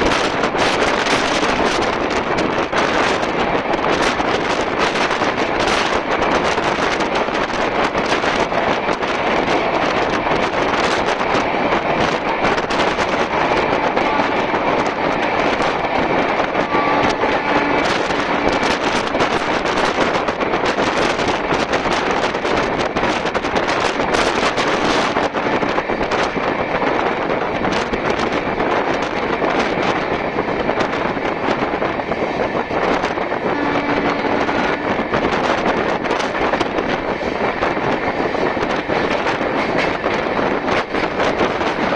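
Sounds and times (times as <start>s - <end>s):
rolling rail noise: 0.0s - 41.9s
wind rushing past train: 0.0s - 41.9s.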